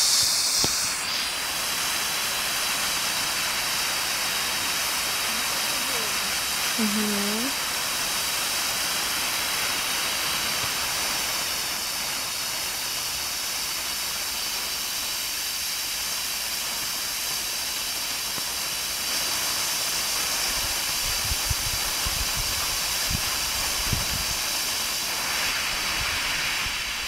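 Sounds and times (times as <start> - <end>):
firework fountain hissing: 0.0 - 27.0.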